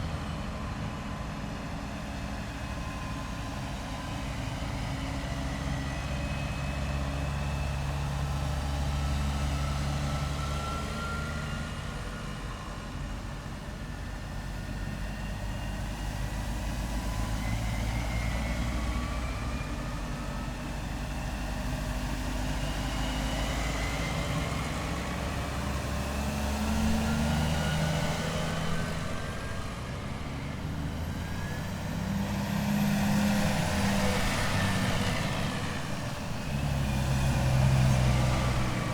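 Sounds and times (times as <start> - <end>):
heavy vehicles driving past: 2.2 - 38.9.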